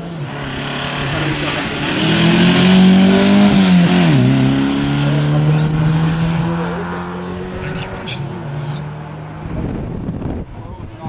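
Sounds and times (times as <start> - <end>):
rally car engine passing: 0.0 - 11.0.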